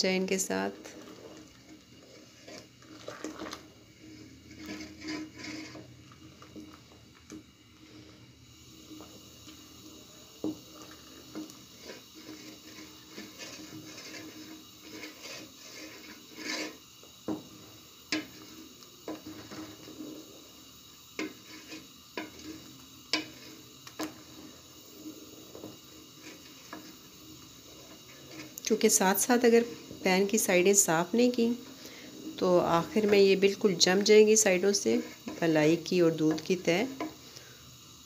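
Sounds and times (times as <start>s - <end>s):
wooden spoon scraping metal pot: 0.0s - 20.6s, 21.2s - 37.5s.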